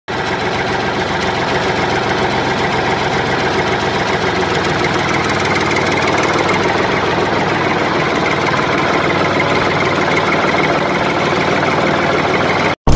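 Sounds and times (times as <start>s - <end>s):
engine chugging steadily: 0.1s - 12.9s.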